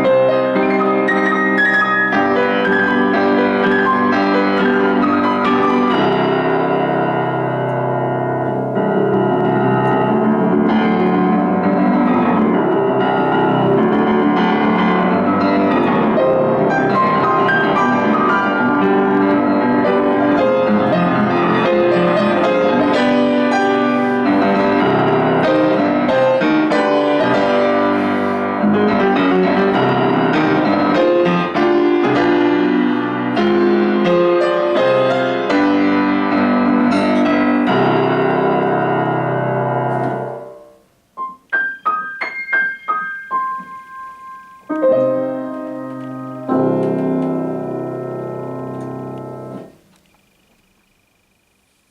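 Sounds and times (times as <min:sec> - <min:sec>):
solo piano playing: 0:00.0 - 0:51.9.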